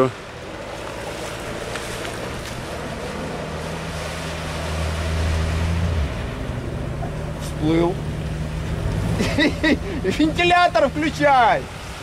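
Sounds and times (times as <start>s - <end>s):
off-road vehicle engine under load: 0.0s - 12.0s
water rushing and splashing: 0.0s - 12.0s.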